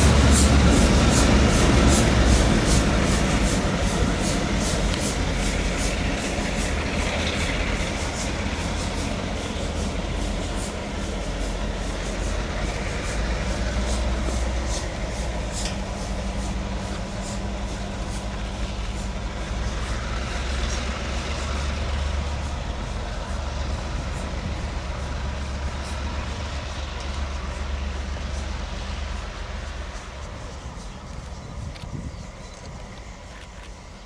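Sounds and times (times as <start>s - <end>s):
train engine hum: 0.0s - 34.0s.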